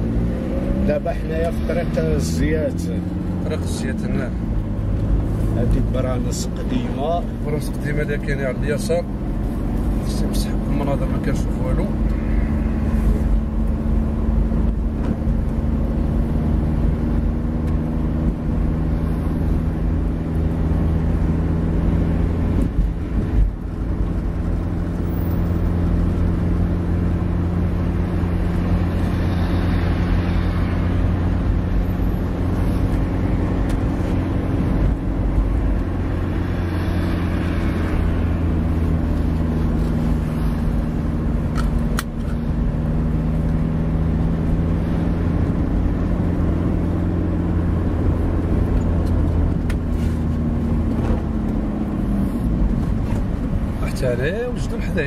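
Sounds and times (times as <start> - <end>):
car engine and road noise: 0.0 - 55.0
traffic passing: 0.0 - 55.0.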